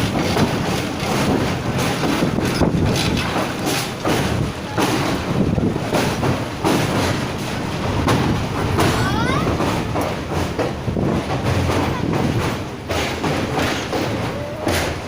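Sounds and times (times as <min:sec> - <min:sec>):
train rumble: 0:00.0 - 0:15.0
wheels clattering over rail joints: 0:00.0 - 0:15.0.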